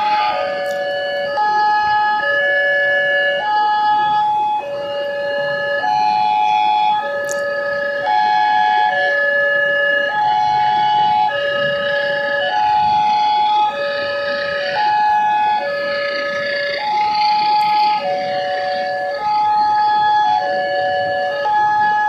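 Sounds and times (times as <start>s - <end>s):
level-crossing warning sirens: 0.0s - 22.0s.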